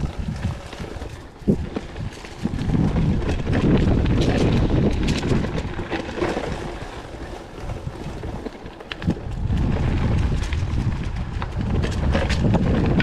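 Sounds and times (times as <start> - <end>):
bike clicks and rattles: 0.0 - 13.0
wind rumbling on microphone: 0.0 - 13.0.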